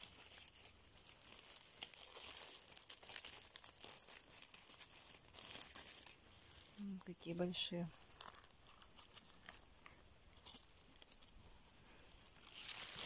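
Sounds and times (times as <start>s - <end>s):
dry leaves rustling and crackling: 0.0s - 13.0s.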